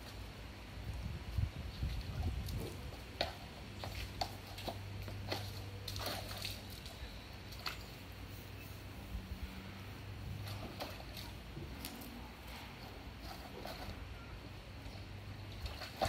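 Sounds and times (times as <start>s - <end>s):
llama pawing water in a tub: 1.4s - 16.0s.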